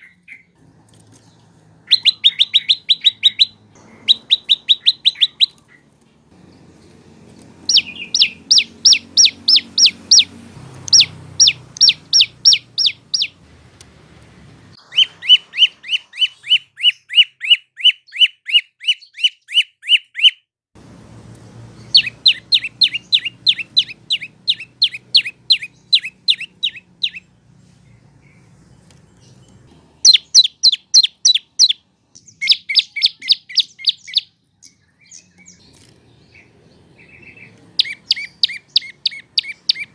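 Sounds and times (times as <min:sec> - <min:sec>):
bird trilling song: 0:00.0 - 0:13.4, 0:14.8 - 0:20.4, 0:21.7 - 0:39.9.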